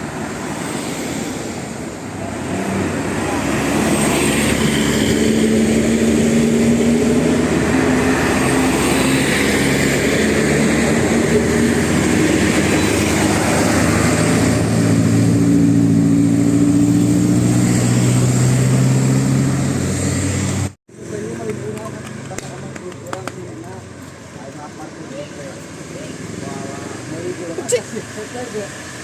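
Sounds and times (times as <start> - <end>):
bus diesel engine driving past: 0.0 - 29.0
road noise: 0.0 - 29.0.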